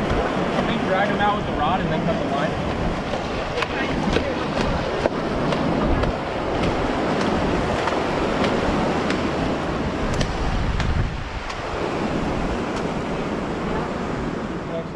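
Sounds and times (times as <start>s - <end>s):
ocean surf washing: 0.0s - 14.9s
wind buffeting microphone: 0.0s - 14.9s.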